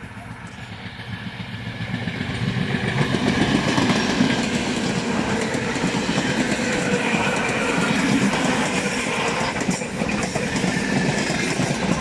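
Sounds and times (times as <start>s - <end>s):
clickety-clack over rail joints: 0.0s - 12.0s
train wheels rumbling on rails: 0.0s - 12.0s.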